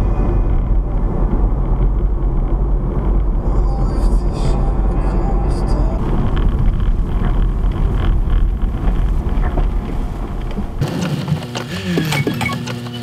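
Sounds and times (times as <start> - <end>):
gliding tones: 0.0 - 12.6
car cabin rumble: 0.0 - 13.0.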